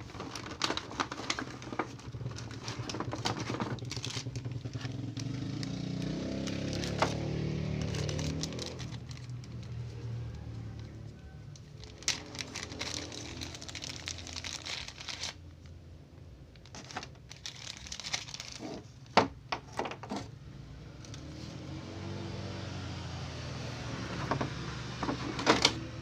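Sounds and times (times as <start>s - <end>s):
packaging crinkling and rustling: 0.0s - 15.8s, 16.6s - 20.3s, 24.1s - 25.8s.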